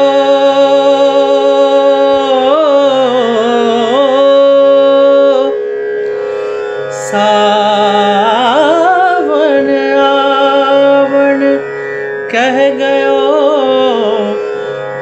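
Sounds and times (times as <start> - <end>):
person singing: 0.0 - 6.2, 6.8 - 15.0
ornamented melody line: 0.0 - 15.0
tanpura drone: 0.0 - 15.0.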